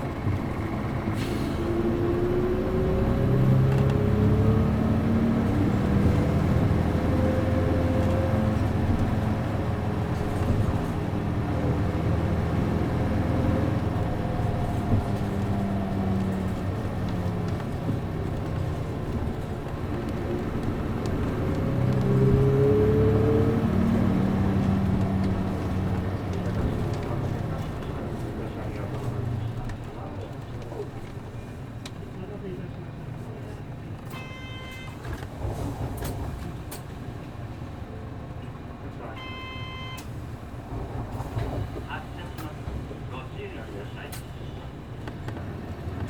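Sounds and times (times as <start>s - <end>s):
bus diesel engine running: 0.0s - 46.0s
road noise rumble: 0.0s - 46.0s.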